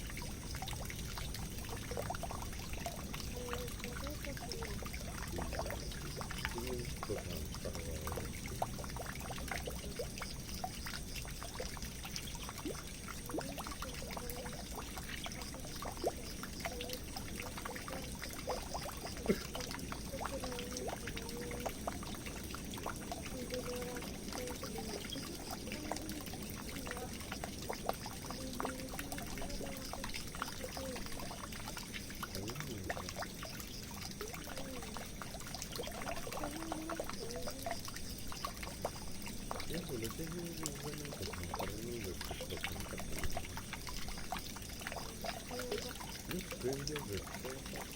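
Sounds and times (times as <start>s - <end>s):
water dripping and splashing: 0.0s - 47.9s
water pouring into a drain: 0.0s - 47.9s.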